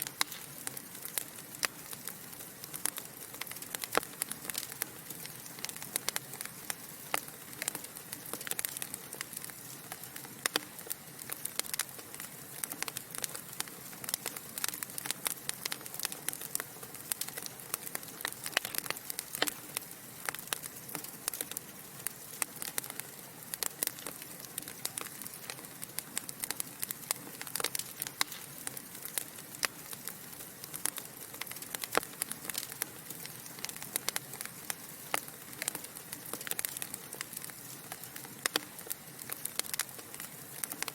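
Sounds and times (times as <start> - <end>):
logs crackling and popping: 0.0 - 40.9.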